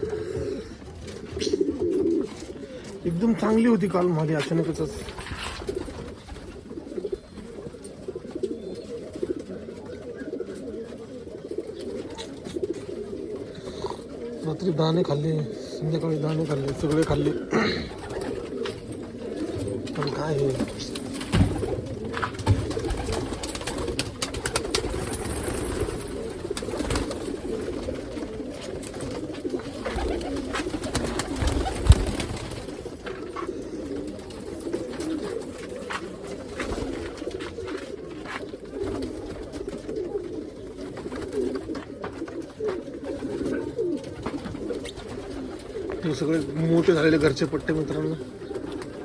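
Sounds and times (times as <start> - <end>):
pigeons cooing: 0.0 - 49.0.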